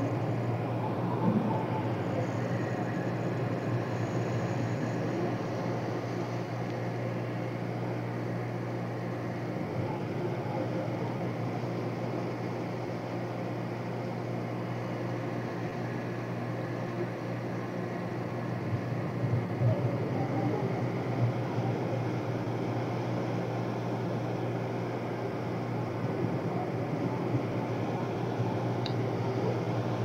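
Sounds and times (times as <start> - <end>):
ship engines droning: 0.0 - 30.0.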